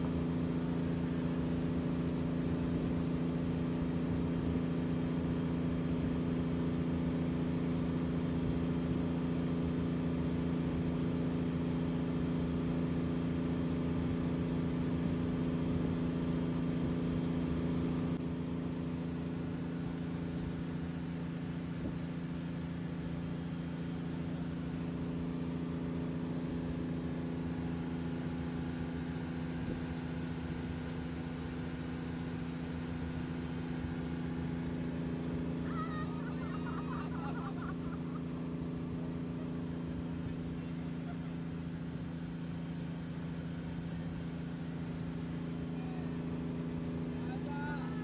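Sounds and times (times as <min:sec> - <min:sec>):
boat engine droning: 0:00.0 - 0:48.0.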